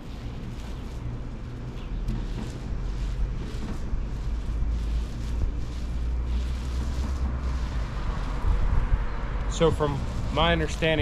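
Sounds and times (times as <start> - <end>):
wind buffeting microphone: 2.1 - 11.0.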